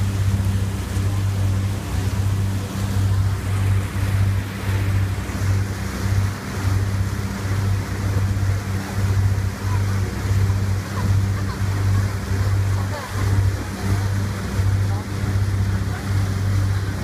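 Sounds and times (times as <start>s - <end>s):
boat engine droning: 0.0s - 17.0s
wake churning: 0.0s - 17.0s.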